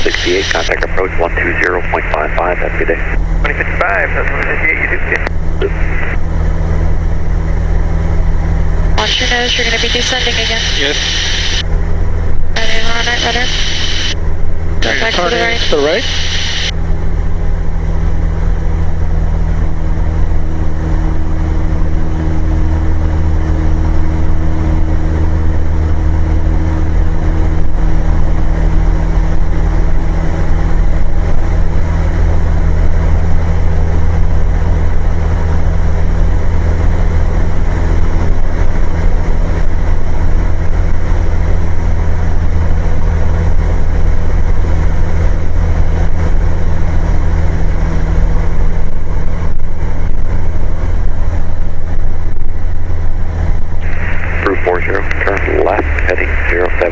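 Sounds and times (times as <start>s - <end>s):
light aircraft engine droning: 0.0s - 56.9s.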